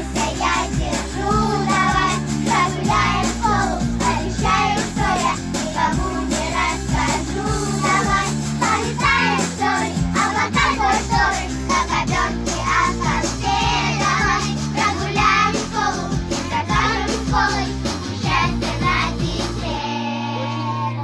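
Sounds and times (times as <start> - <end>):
backing track music: 0.0 - 21.0
child singing: 0.0 - 21.0.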